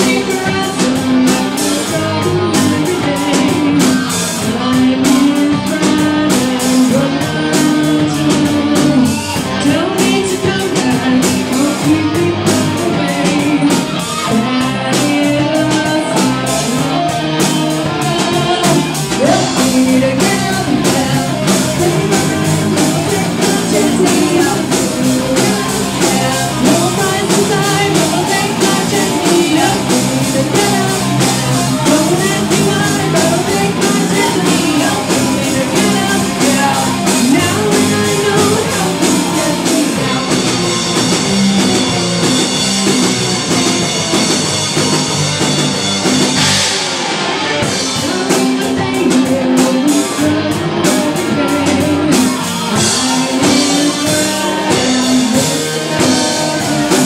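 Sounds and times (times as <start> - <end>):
woman singing: 0.0 - 40.6, 47.6 - 57.0
distorted electric guitar: 0.0 - 57.0
drum kit beat: 0.0 - 57.0.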